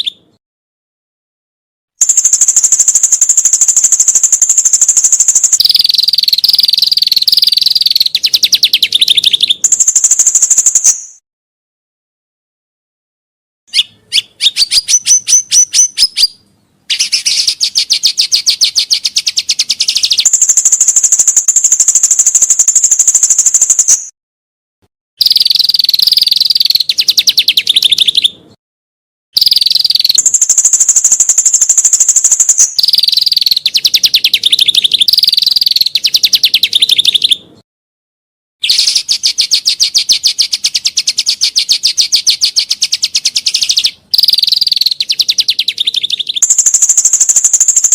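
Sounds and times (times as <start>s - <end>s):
bird singing fast trills: 0.0s - 0.4s, 2.0s - 11.2s, 13.7s - 24.1s, 25.2s - 28.6s, 29.4s - 37.6s, 38.6s - 47.9s.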